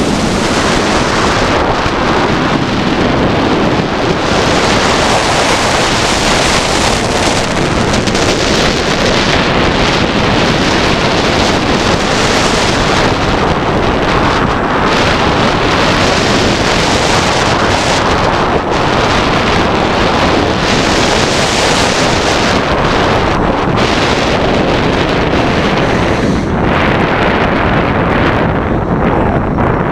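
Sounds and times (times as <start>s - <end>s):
roller coaster rumbling on track: 0.0s - 29.9s
wind buffeting microphone: 0.0s - 29.9s.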